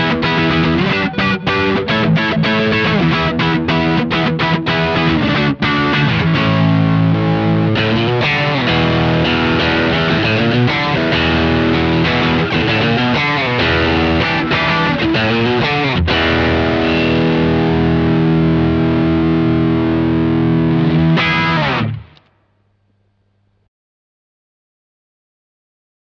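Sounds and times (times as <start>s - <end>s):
distorted electric guitar: 0.0s - 22.4s.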